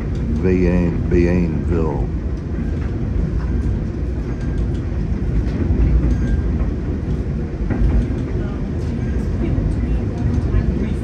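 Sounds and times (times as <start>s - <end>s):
train rumbling over track: 0.0s - 11.0s.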